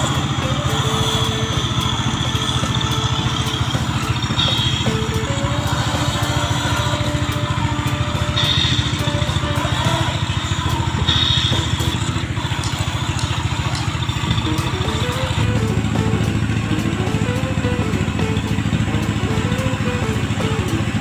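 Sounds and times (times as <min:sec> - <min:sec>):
background music: 0:00.0 - 0:21.0
truck engine running: 0:00.0 - 0:21.0.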